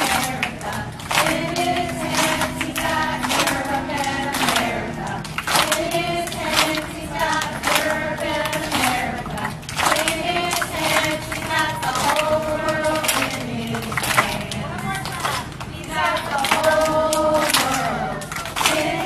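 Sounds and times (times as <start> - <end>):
children singing in unison: 0.0 - 14.7, 15.7 - 19.0
clapping along: 0.0 - 19.0.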